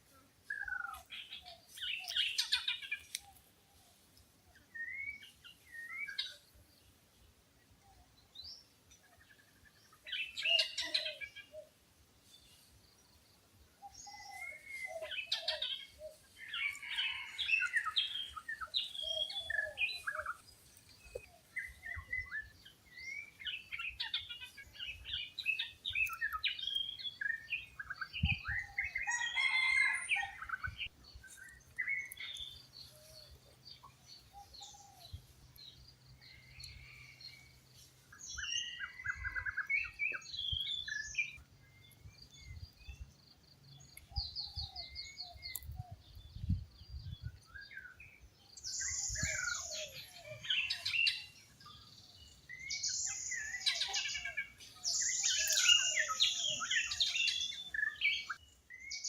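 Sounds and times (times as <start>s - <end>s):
wild birds chirping and trilling: 0.0s - 59.0s.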